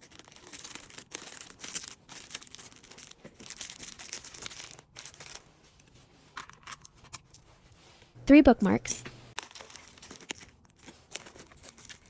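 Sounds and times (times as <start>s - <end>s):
plastic packaging rustling: 0.0s - 8.1s, 9.3s - 12.0s.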